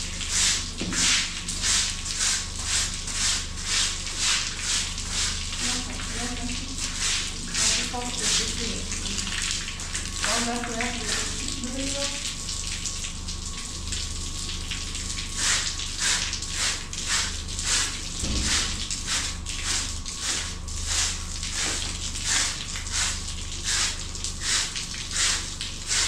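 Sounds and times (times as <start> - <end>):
hand scrubbing strokes: 0.0 - 12.1, 15.3 - 26.0
low steady hum: 0.0 - 26.0.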